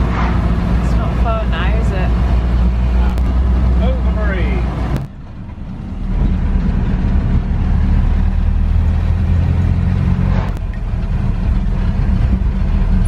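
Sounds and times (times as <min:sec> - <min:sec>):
road noise: 0:00.0 - 0:13.0
van engine drone: 0:00.0 - 0:13.0.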